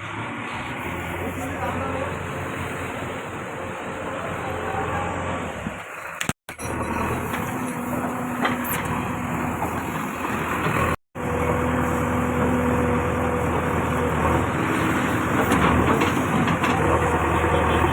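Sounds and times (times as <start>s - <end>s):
diesel machinery engine running: 0.5s - 5.8s, 6.5s - 17.9s.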